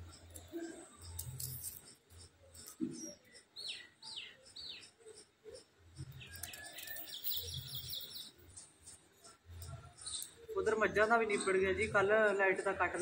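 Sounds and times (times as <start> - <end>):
bird trill: 0.0 - 13.0
small birds chirping: 0.0 - 13.0.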